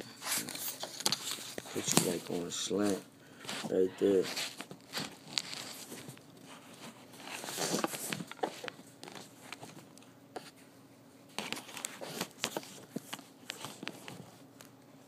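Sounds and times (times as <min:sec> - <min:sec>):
camera handling rubbing and rustling: 0:00.2 - 0:10.6, 0:11.3 - 0:14.3.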